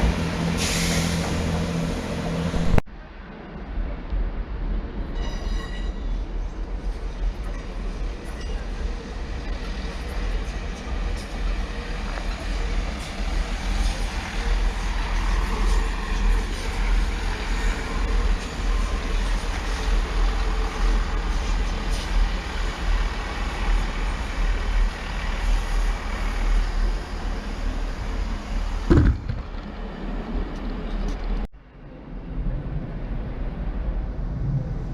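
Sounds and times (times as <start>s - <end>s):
diesel train engines running: 0.0s - 5.0s, 5.7s - 31.5s.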